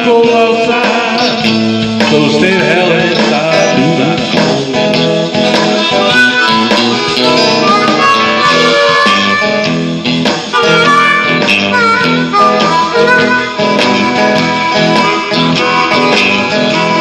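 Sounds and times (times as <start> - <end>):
guitar accompaniment: 0.0 - 17.0
bluesy harmonica solo: 2.8 - 17.0.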